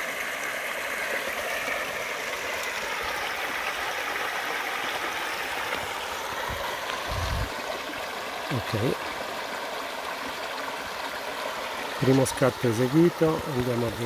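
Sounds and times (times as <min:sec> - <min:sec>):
stream running over rocks: 0:00.0 - 0:14.0.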